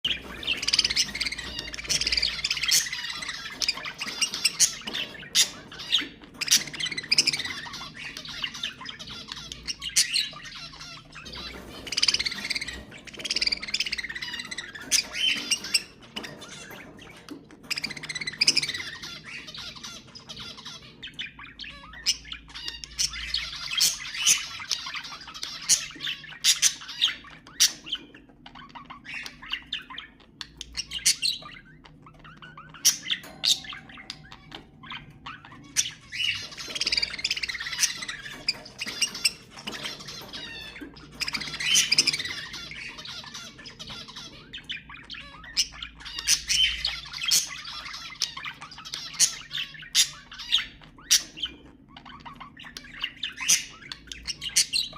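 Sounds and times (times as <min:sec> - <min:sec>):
budgerigars chattering: 0:00.0 - 0:54.9.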